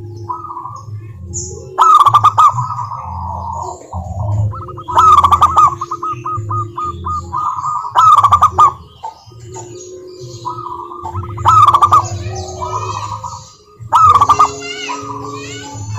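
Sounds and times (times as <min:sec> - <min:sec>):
doves cooing: 0:00.0 - 0:15.9.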